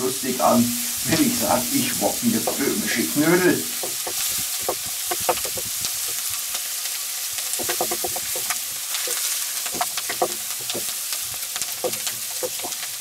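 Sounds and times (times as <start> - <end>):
food sizzling in a wok: 0.0 - 13.0
wooden spatula scraping a pan: 0.6 - 6.3, 7.6 - 12.9.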